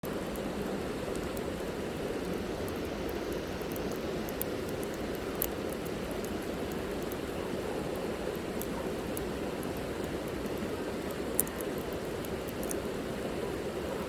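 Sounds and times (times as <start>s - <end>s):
fire crackles and pops: 0.0s - 13.8s
campfire flames rushing: 0.0s - 14.0s.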